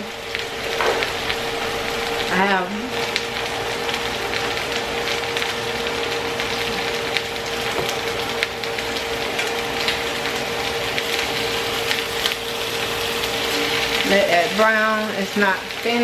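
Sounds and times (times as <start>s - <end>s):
chicken sizzling in a hot pan: 0.0s - 16.0s
steady hum: 0.0s - 16.0s.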